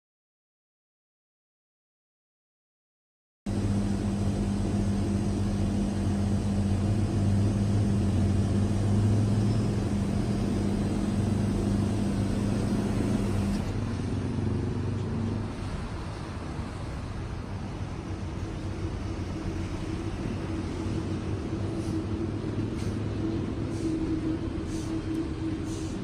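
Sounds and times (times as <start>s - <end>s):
city traffic drone: 3.5s - 26.0s
low hum: 3.5s - 26.0s.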